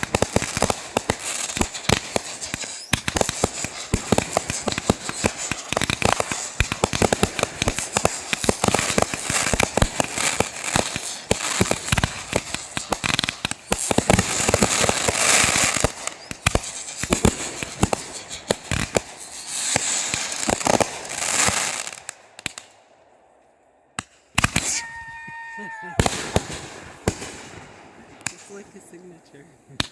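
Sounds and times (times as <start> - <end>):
fireworks bangs and crackles: 0.0 - 22.8, 24.0 - 29.9.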